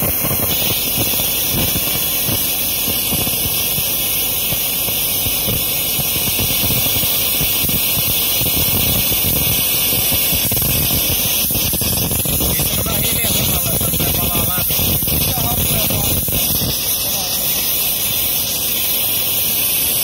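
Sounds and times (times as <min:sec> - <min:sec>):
rocket motor hissing: 0:00.0 - 0:20.0.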